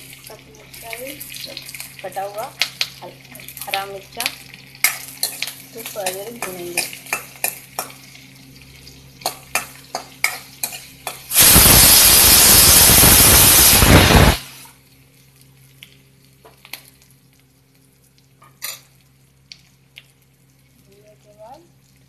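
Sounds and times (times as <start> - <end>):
loud hissing sizzle: 0.0 - 22.0.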